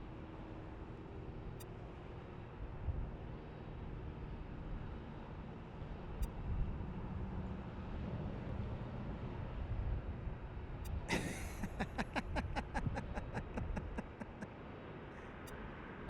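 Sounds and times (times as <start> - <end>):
low rumble of passing traffic: 0.1 - 16.0.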